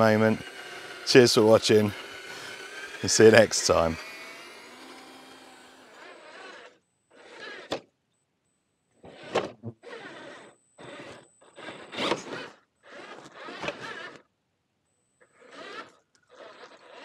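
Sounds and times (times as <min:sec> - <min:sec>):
toy truck electric motor whirring: 0:00.0 - 0:07.9, 0:08.9 - 0:14.3, 0:15.1 - 0:17.0.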